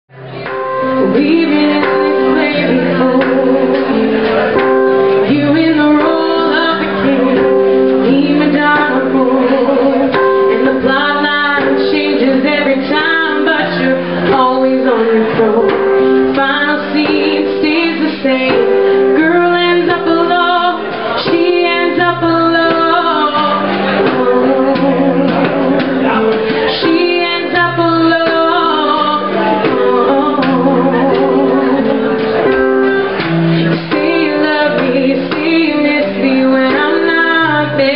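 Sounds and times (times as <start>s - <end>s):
guitar accompaniment: 0.1s - 37.9s
woman singing: 0.2s - 37.9s.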